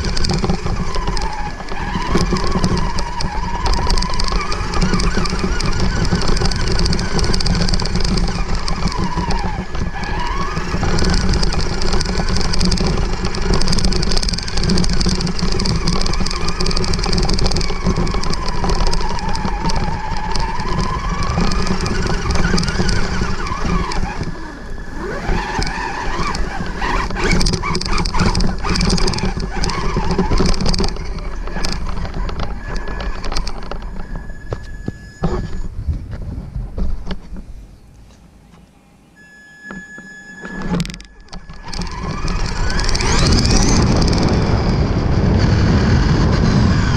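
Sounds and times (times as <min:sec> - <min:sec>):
toy truck motor whining: 0:00.0 - 0:35.7, 0:39.2 - 0:46.9
chassis clicks and knocks: 0:00.0 - 0:37.5, 0:40.5 - 0:44.6.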